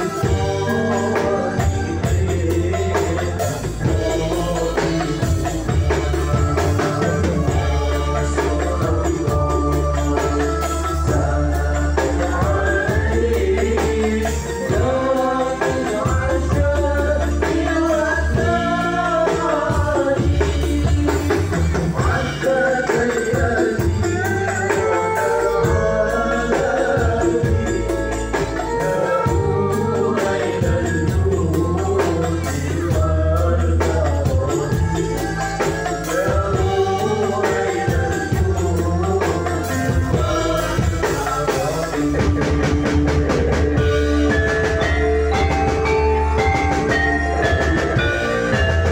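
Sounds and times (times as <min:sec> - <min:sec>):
frame drums and darbuka beating: 0:00.0 - 0:48.9
keyboard guitar and bass: 0:00.0 - 0:48.9
man singing through microphone: 0:00.0 - 0:48.9.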